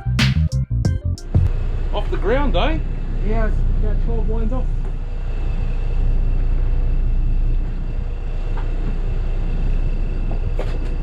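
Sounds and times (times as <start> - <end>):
boat engine rumbling: 1.1 - 11.0.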